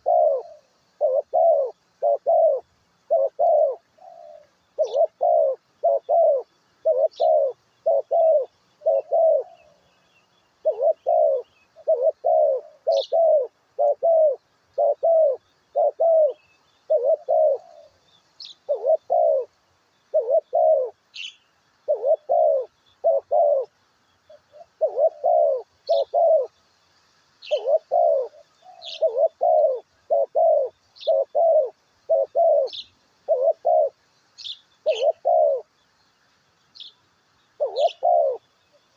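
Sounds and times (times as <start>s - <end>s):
dove cooing: 0.0s - 10.0s, 10.6s - 26.6s, 27.4s - 35.8s, 37.6s - 38.9s
small bird chirping: 0.0s - 26.6s, 27.4s - 38.9s.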